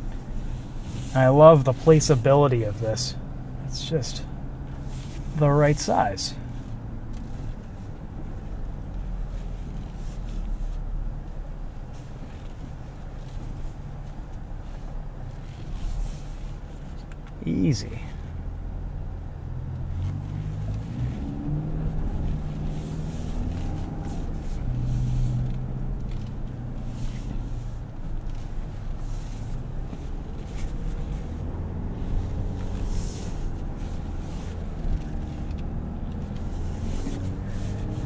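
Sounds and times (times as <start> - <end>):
engine humming at low speed: 0.0 - 38.0.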